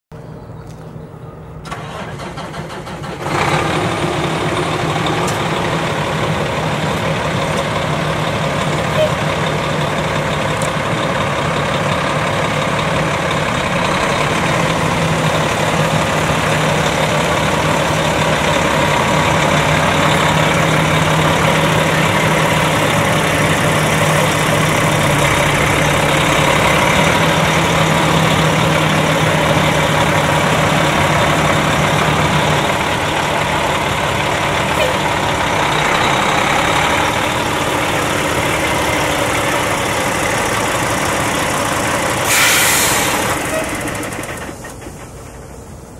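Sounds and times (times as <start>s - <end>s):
diesel engine idling: 0.2s - 45.9s.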